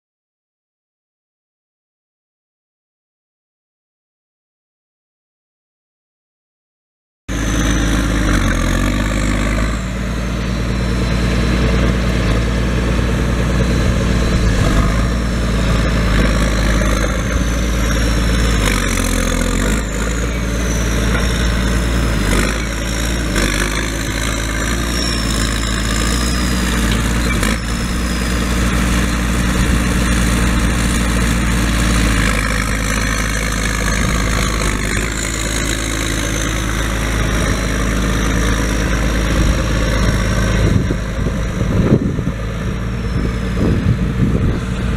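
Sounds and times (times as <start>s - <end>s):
tractor diesel engine idling: 7.3s - 44.9s.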